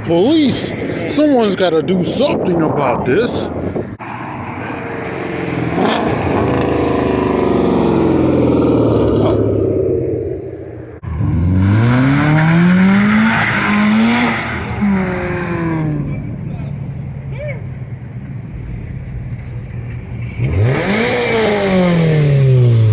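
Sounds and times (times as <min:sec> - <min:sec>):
car engine revving: 0:03.5 - 0:22.9.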